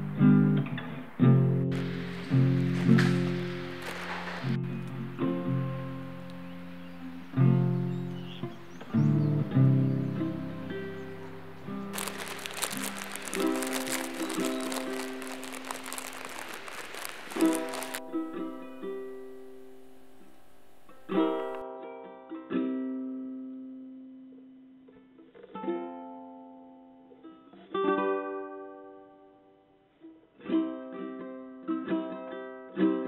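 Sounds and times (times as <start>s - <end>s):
plucked acoustic string instrument: 0.0s - 33.0s.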